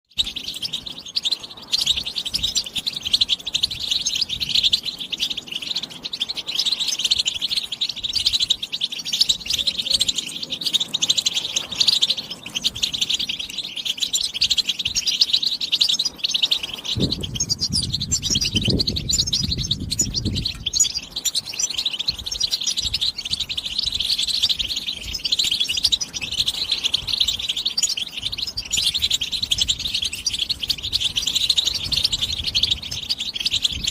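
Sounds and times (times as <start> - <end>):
finch twittering song: 0.0 - 33.9.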